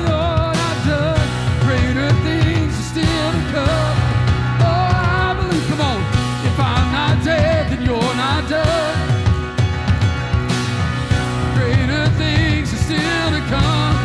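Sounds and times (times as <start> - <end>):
man singing lead: 0.0 - 9.4, 11.3 - 14.0
worship band playing: 0.0 - 14.0.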